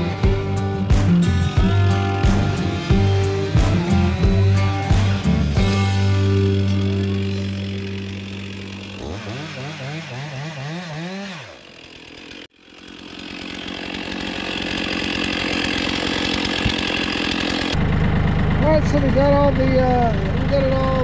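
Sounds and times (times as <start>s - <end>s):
chainsaw revving: 0.0s - 21.0s.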